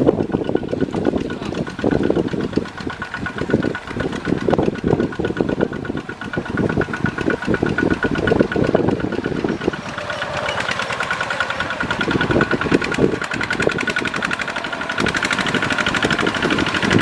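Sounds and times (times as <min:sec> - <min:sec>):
diesel engine chugging under load: 0:00.0 - 0:17.0
wheels churning through mud: 0:00.0 - 0:17.0.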